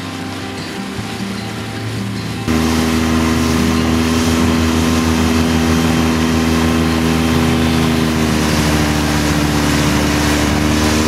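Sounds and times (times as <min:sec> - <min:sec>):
outboard motor running: 0:00.0 - 0:11.0
wake water rushing: 0:00.0 - 0:11.0
wind: 0:00.0 - 0:11.0.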